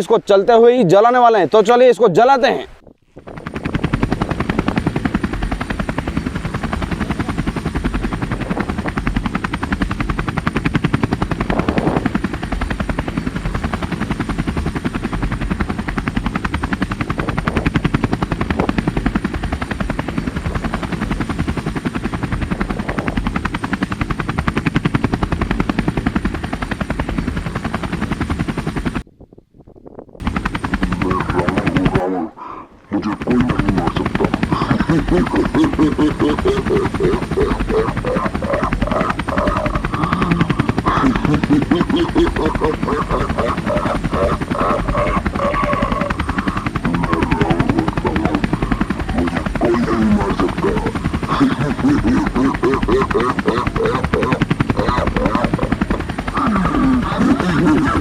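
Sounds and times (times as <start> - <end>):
helicopter rotor chopping: 0.0 - 58.0.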